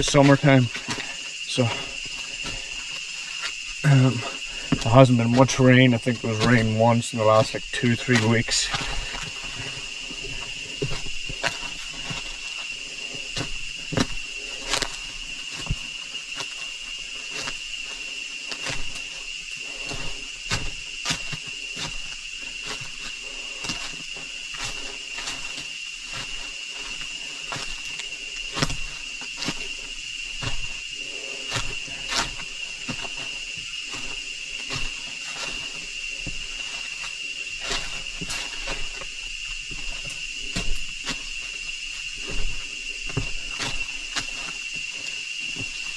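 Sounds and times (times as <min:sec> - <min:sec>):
footsteps on stones: 0:00.0 - 0:45.9
insects droning: 0:00.0 - 0:45.9.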